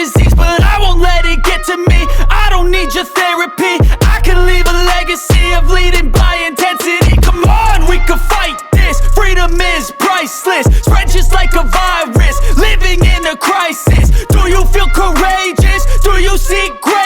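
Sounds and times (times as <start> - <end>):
hip-hop music with heavy bass: 0.0 - 17.0.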